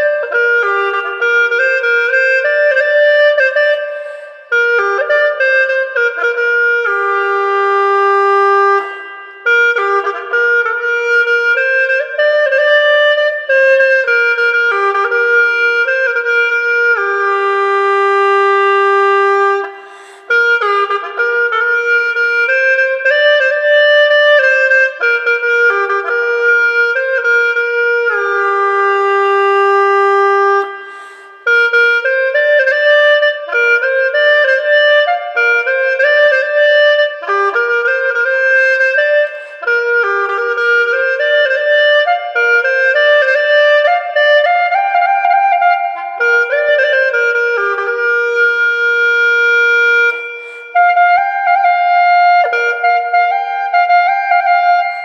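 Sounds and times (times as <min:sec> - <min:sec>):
gourd flute melody: 0:00.0 - 0:55.0.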